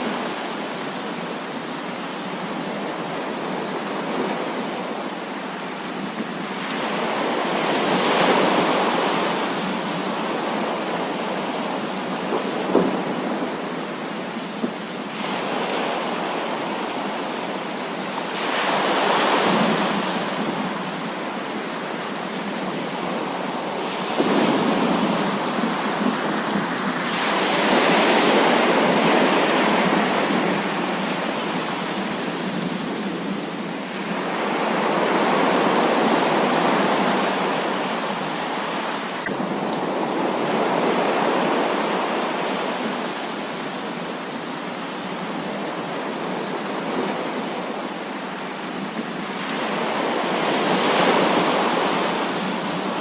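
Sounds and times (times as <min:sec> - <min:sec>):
heavy rain downpour: 0:00.0 - 0:53.0.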